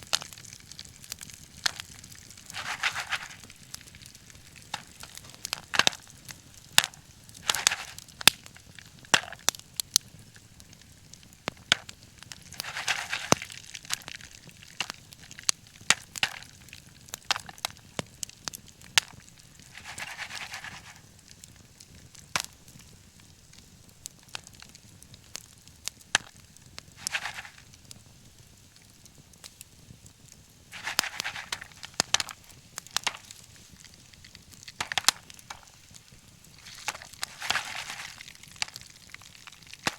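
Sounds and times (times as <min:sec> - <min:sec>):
hiss from burning wood: 0:00.0 - 0:39.9
wood fire crackling and popping: 0:00.0 - 0:39.9.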